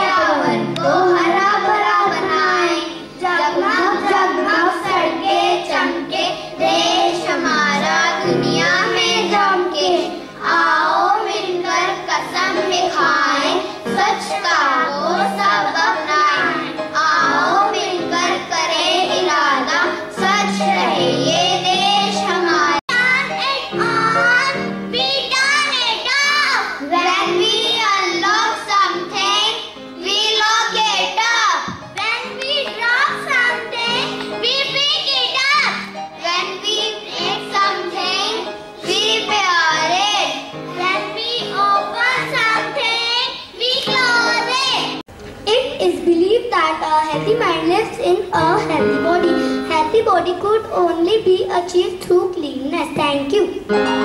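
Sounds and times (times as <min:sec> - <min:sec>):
children singing into microphones: 0:00.0 - 0:45.0
accompanying music: 0:00.0 - 0:54.0.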